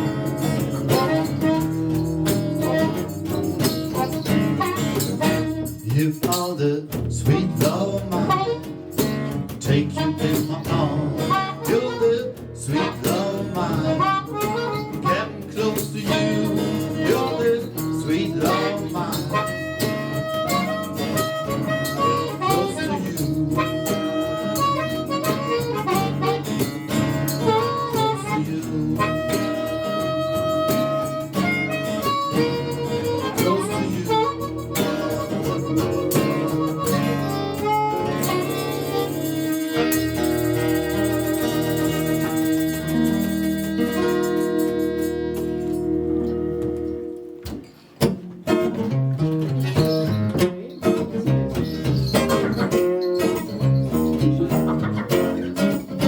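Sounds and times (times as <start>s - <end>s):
harmonica solo: 0.0s - 5.8s, 7.3s - 9.3s, 9.9s - 47.3s, 51.6s - 56.0s
blues guitar accompaniment: 0.0s - 56.0s.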